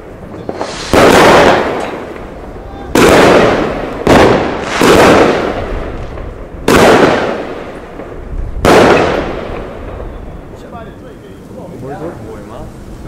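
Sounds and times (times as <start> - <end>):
firework bangs: 0.0 - 11.7.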